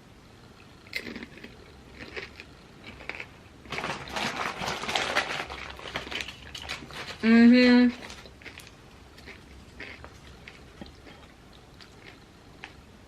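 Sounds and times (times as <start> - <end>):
snack bag crinkling: 1.0 - 7.2, 7.9 - 12.7.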